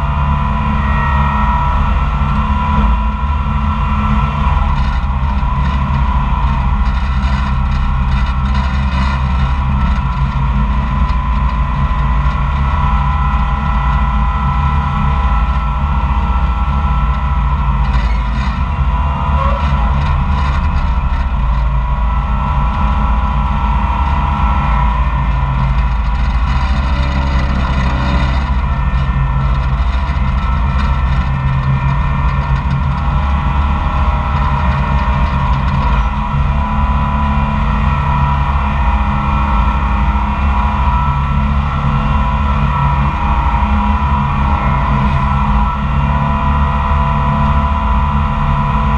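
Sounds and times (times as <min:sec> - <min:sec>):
dragline engine and machinery: 0:00.0 - 0:48.9
steady mechanical whine: 0:00.0 - 0:48.9.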